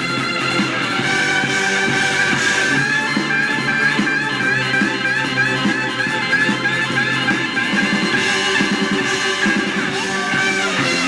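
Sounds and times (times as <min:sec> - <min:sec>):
drums beat: 0:00.0 - 0:11.0
electric guitar: 0:00.0 - 0:11.0.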